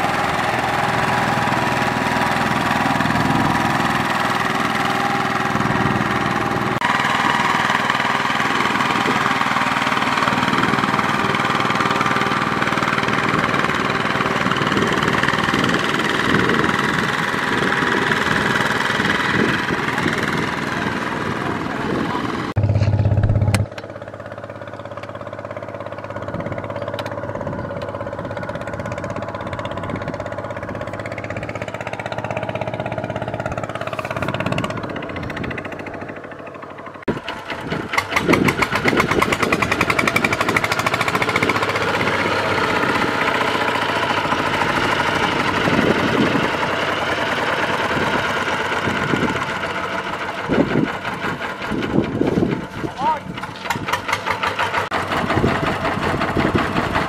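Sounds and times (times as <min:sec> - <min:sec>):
diesel tractor engine running: 0:00.0 - 0:57.0
walking tractor engine knocking: 0:00.0 - 0:57.0.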